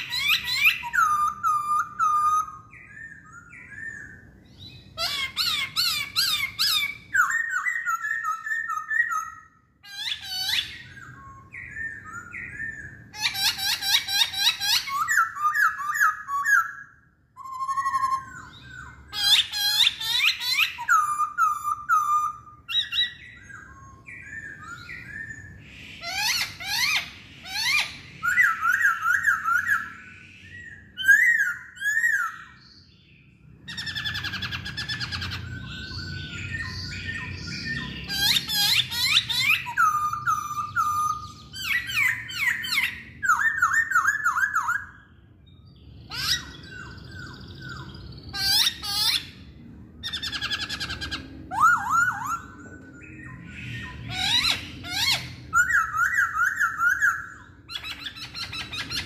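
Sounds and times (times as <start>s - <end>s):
bird singing whistled song: 0.0s - 59.0s.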